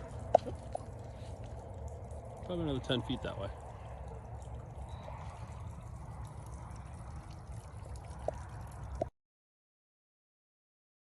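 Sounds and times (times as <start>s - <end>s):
water overflowing and flowing: 0.0s - 9.1s.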